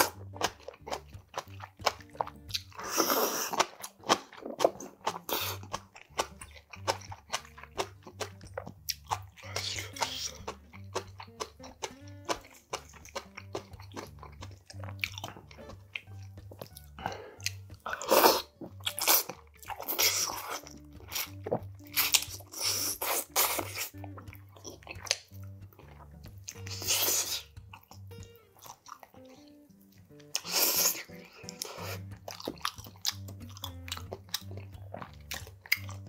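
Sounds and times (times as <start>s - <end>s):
chewing and crunching food: 0.0s - 36.0s
soft background music: 0.0s - 36.0s.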